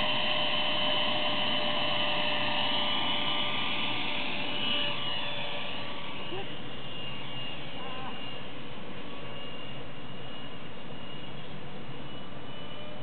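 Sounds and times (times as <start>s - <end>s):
high-pitched electric fan whine: 0.0s - 13.0s.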